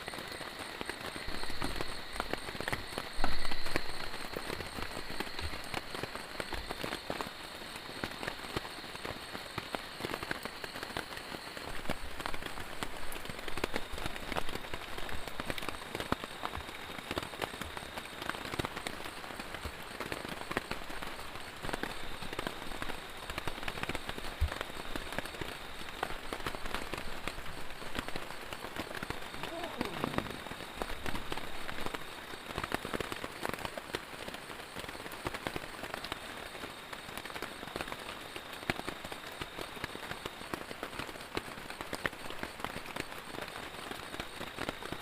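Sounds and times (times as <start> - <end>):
heavy rain falling: 0.0 - 45.0
raindrops striking a surface: 0.0 - 45.0.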